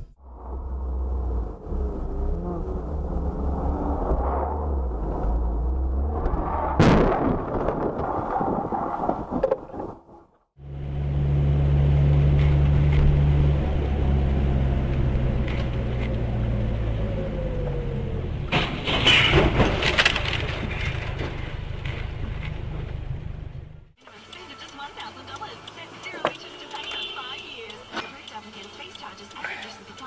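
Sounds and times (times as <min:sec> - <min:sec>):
vehicle engine and road drone: 0:00.0 - 0:09.1, 0:10.5 - 0:30.0.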